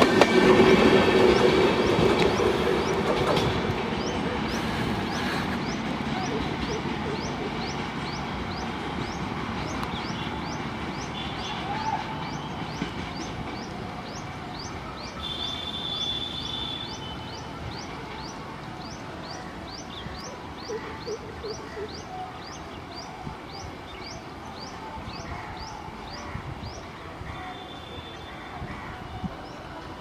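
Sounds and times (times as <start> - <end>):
passenger train rumbling: 0.0 - 30.0.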